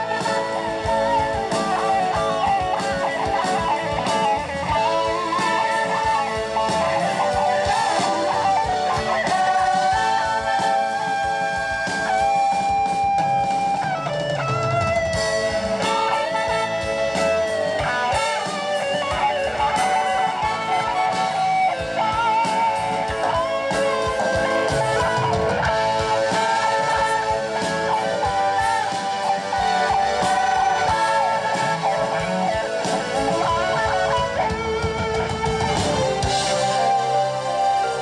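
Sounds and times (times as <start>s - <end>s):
electric guitar: 0.0s - 38.0s
live blues band playing: 0.0s - 38.0s.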